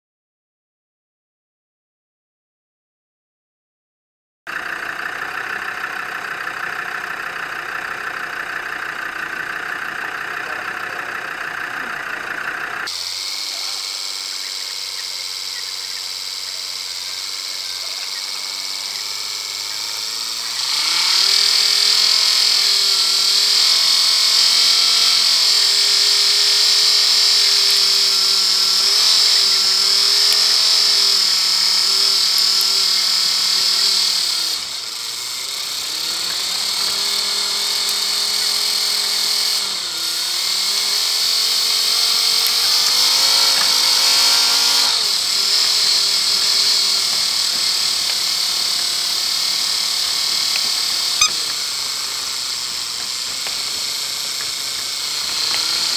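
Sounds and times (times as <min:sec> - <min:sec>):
car engine running: 0:04.5 - 0:55.9.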